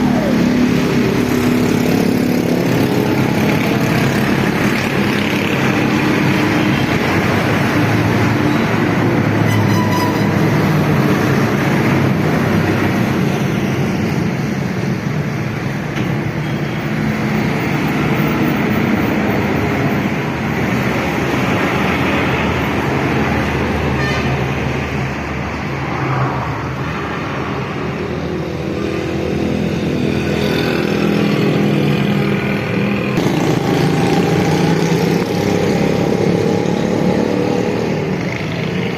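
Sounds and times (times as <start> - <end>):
road traffic: 0.0 - 38.9.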